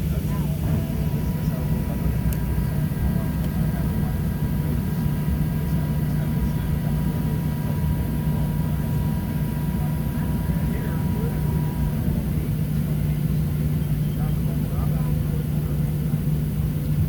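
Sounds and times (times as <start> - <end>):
faint engine whine: 0.0 - 17.0
jet engines rumbling in cabin: 0.0 - 17.0.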